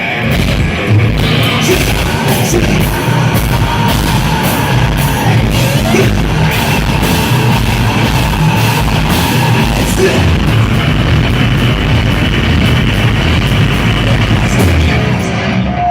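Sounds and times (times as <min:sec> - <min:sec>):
distorted electric guitars: 0:00.0 - 0:15.9
drums: 0:00.0 - 0:15.9.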